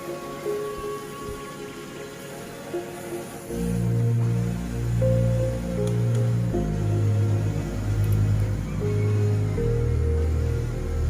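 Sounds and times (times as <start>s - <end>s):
slow held music chords: 0.0s - 11.0s.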